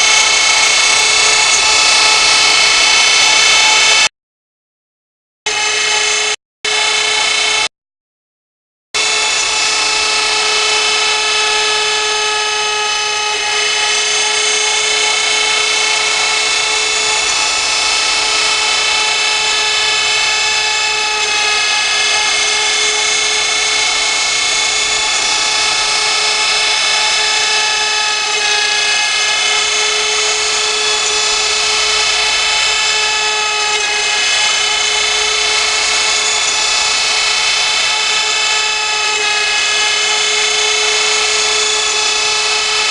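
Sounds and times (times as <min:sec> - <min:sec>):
router spindle whining while cutting: 0:00.0 - 0:04.1, 0:05.5 - 0:07.7, 0:09.0 - 0:42.9.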